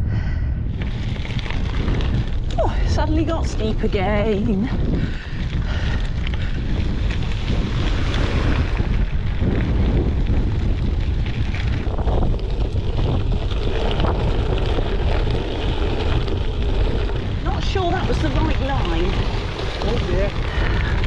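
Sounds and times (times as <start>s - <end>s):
wind buffeting microphone: 0.0s - 21.0s
tyres rolling over gravel: 0.7s - 21.0s.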